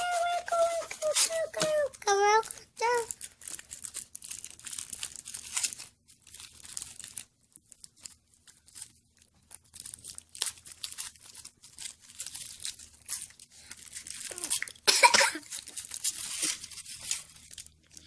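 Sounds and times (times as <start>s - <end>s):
foil wrapper tearing and crinkling: 0.0s - 18.0s.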